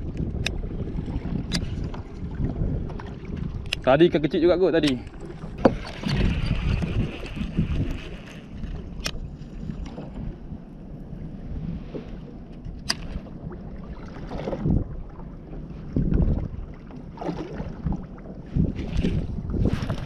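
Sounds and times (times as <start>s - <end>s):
water lapping against kayak hull: 0.0s - 20.0s
wind buffeting microphone: 0.0s - 20.0s.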